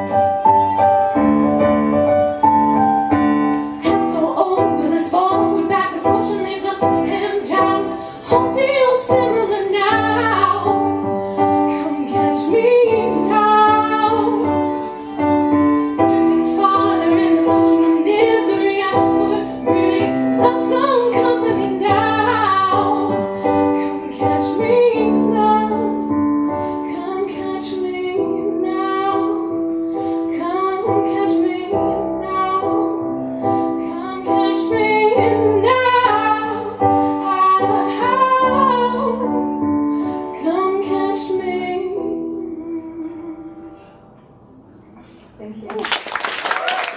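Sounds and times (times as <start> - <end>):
piano chords: 0.0 - 44.9
woman singing with vibrato: 3.6 - 43.8.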